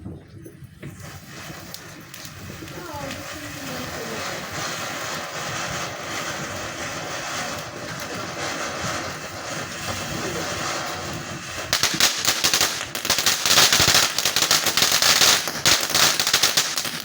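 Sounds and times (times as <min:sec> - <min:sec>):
firecrackers crackling: 0:00.6 - 0:17.0.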